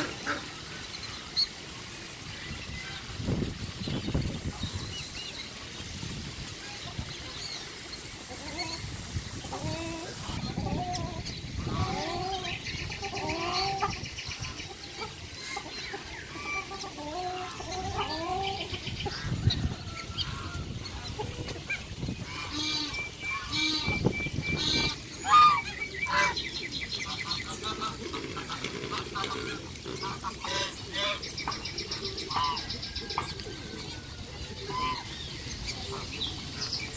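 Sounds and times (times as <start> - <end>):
ducks and geese calling: 0.0 - 1.6, 6.5 - 36.9.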